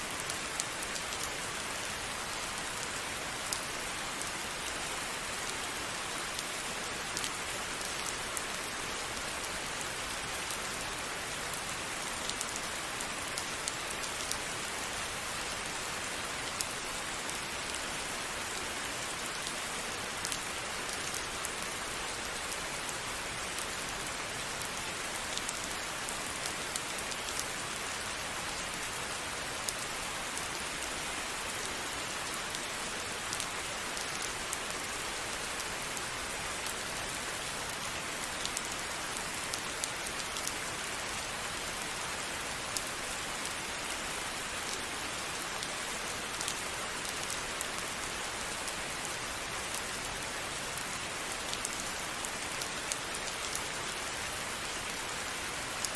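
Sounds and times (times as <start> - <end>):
steady rain: 0.0 - 55.9
raindrops ticking on surface: 0.1 - 55.9.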